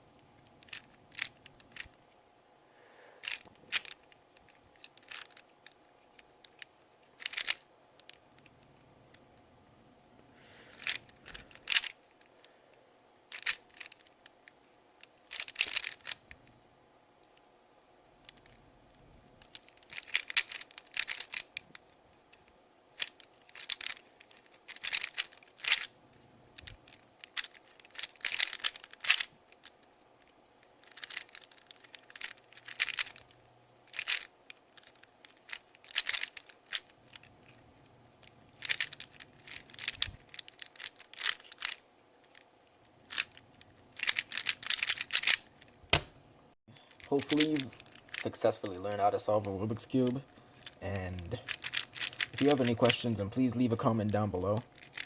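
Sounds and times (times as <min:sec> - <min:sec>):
puzzle cube clicking while turned: 0:00.4 - 0:02.2, 0:03.2 - 0:09.3, 0:10.7 - 0:12.5, 0:13.3 - 0:16.5, 0:18.2 - 0:25.9, 0:26.5 - 0:46.1, 0:46.8 - 0:55.0.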